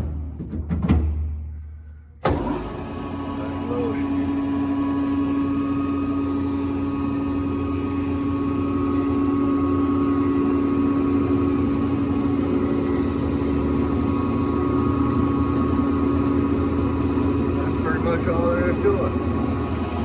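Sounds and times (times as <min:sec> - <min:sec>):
bandsaw humming and whining: 0:02.3 - 0:20.0.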